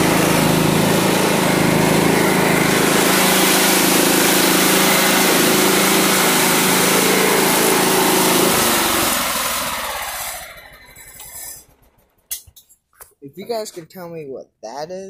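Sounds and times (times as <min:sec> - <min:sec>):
riding lawn mower engine running: 0:00.0 - 0:12.4.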